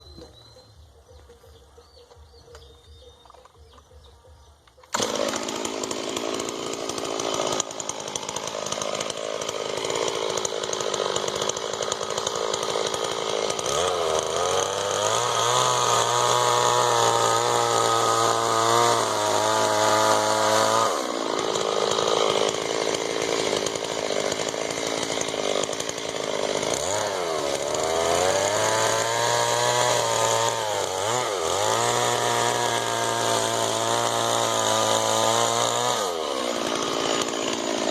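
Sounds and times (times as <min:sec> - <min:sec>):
chainsaw running at high revs: 0:04.8 - 0:37.9.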